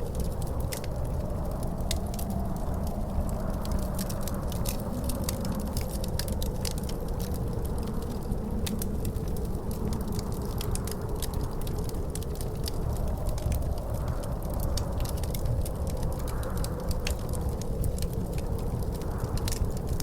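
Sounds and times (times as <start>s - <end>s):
wind rumble: 0.0s - 20.0s
wood fire crackling: 0.0s - 20.0s.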